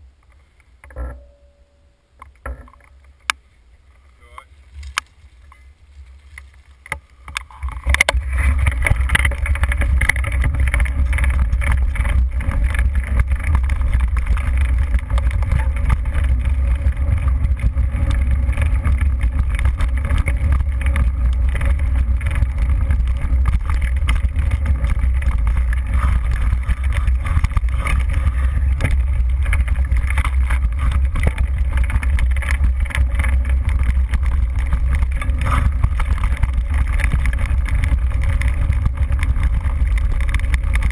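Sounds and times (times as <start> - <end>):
bike rattling over rough trail: 2.2 - 40.9
wind buffeting microphone: 7.7 - 40.9.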